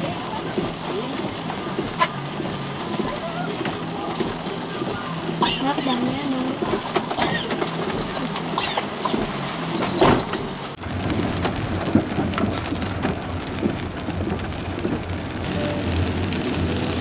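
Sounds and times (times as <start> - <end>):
car driving on wet road: 0.0 - 17.0
low engine hum: 0.0 - 17.0.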